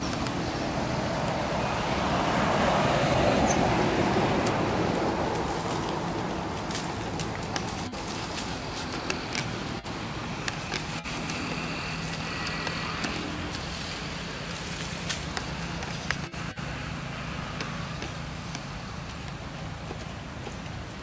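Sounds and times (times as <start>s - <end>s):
road traffic: 0.0s - 21.0s
scooter engine humming past: 0.0s - 21.0s
steady hiss: 4.0s - 21.0s.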